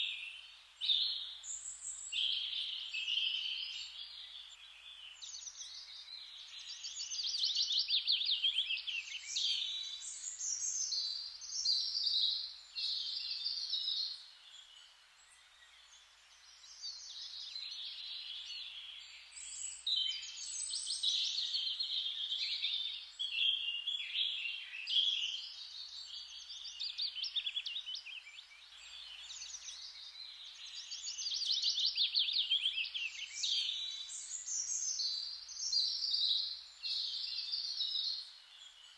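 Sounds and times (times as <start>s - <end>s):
faint hiss: 0.0s - 38.9s
songbirds singing: 0.0s - 38.9s.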